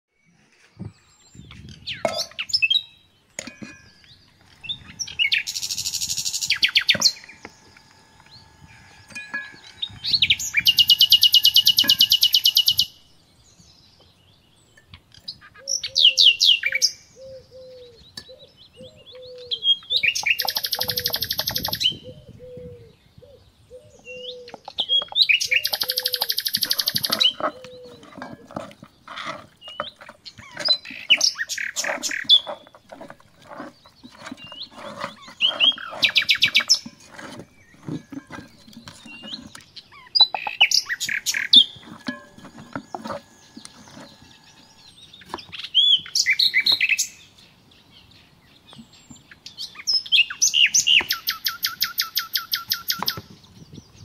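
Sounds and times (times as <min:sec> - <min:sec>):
songbirds trilling: 0:00.1 - 0:54.0.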